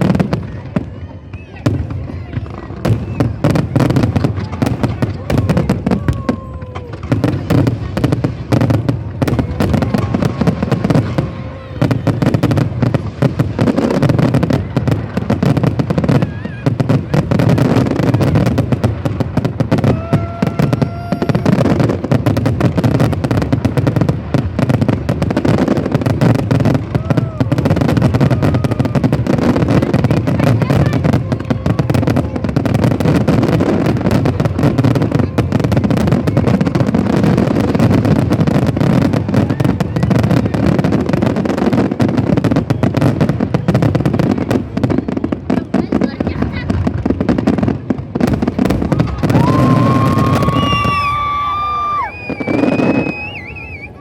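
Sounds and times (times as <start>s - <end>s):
crowd voices: 0.0s - 54.0s
fireworks crackling bangs: 0.0s - 54.0s.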